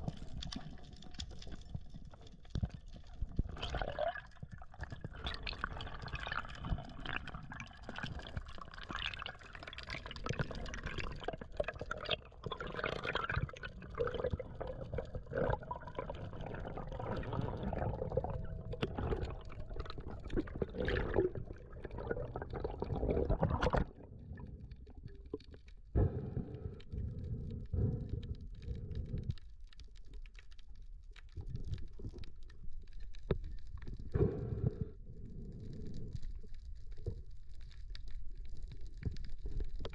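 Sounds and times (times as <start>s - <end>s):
underwater clicks and crackles: 0.0s - 39.9s
underwater low rumble: 0.0s - 39.9s.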